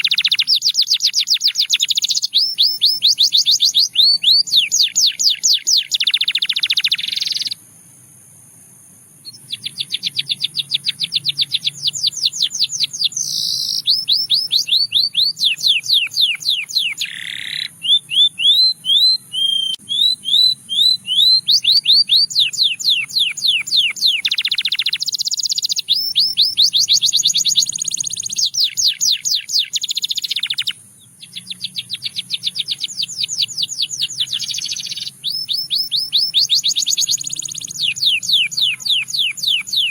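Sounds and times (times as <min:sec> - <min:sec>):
canary singing: 0:00.0 - 0:07.6, 0:09.2 - 0:39.9.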